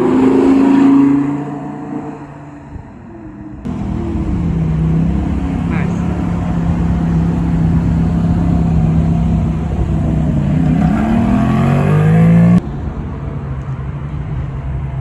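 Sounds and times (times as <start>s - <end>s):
car engine revving: 0.0s - 12.6s
low engine rumble: 2.6s - 15.0s.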